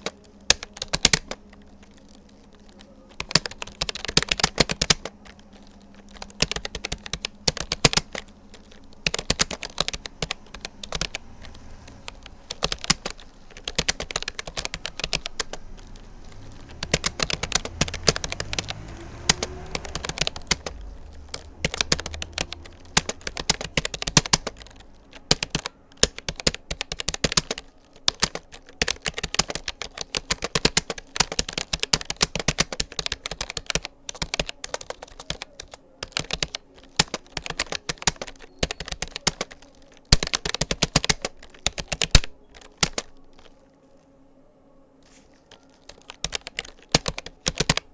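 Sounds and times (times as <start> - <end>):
keyboard typing clicks: 0.0 - 44.1, 45.0 - 47.9.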